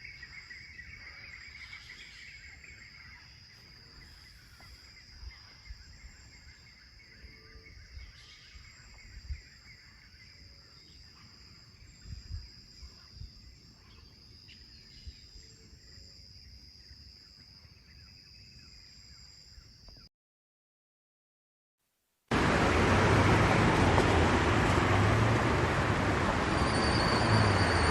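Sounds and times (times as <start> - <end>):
insect drone: 0.0 - 20.1, 22.4 - 27.9.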